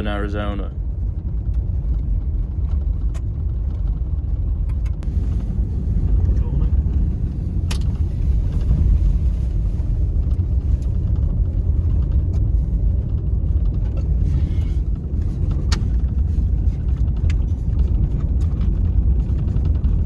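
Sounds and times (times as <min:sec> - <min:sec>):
truck rumbling on gravel: 0:00.0 - 0:20.0.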